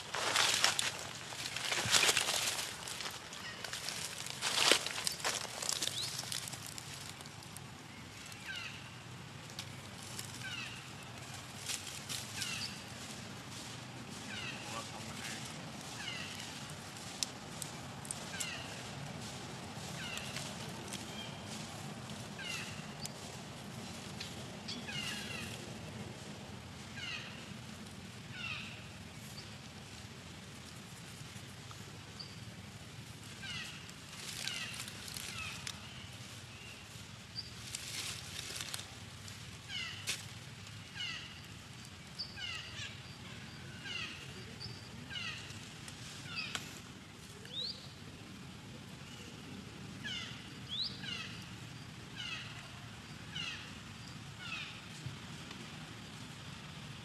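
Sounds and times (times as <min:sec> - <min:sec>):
rustling in dry leaves: 0:00.0 - 0:57.0.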